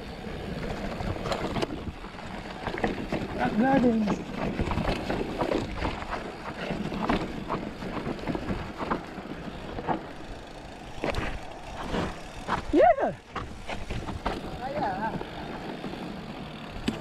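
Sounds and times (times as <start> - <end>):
bike tyres rushing on trail: 0.0 - 17.0
bike knocks and rattles: 0.6 - 17.0.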